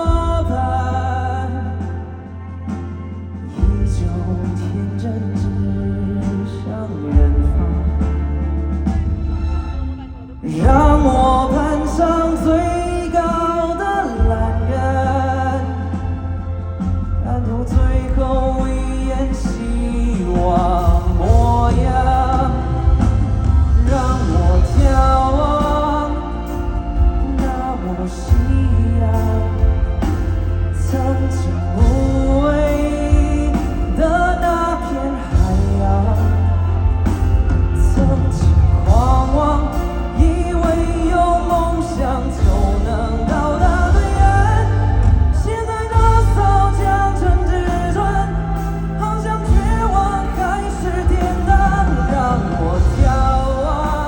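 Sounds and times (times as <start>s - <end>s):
live pop song with heavy bass: 0.0s - 54.0s.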